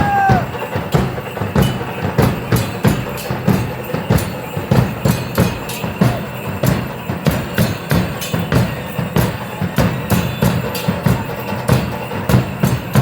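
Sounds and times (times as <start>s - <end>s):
drums beating steady rhythm: 0.0s - 13.0s.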